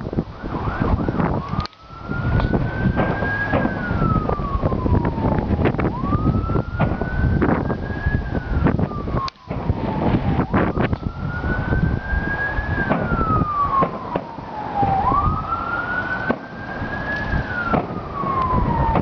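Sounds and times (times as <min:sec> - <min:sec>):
dense low rumble: 0:00.0 - 0:19.0
emergency vehicle siren wailing: 0:00.0 - 0:19.0.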